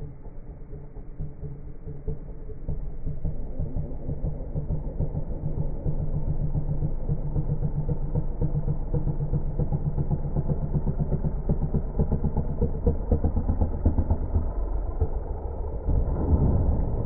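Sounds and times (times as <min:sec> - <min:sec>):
light aircraft engine and propeller: 0:00.0 - 0:17.0.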